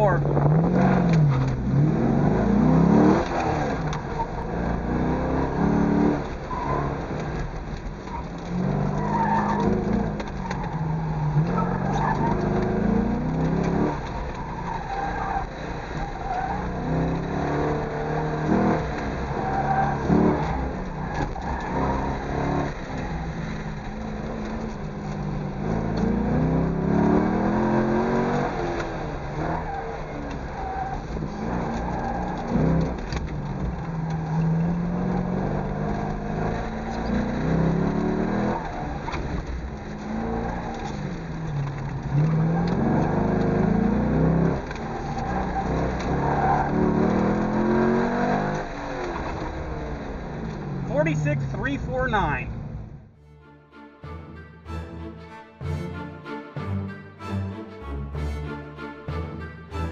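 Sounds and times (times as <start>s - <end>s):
tires squealing: 0.0s - 52.6s
car engine revving: 0.0s - 53.3s.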